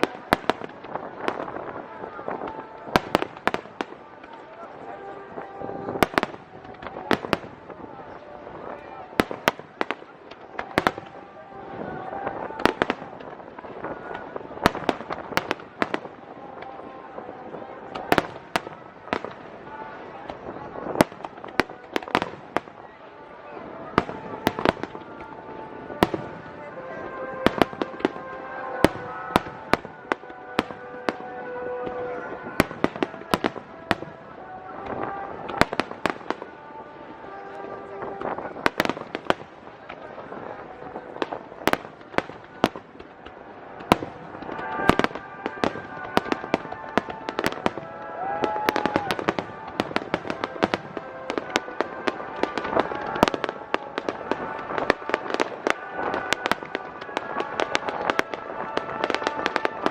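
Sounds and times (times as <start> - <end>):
fireworks bursting: 0.0 - 59.9
music playing: 0.0 - 59.9.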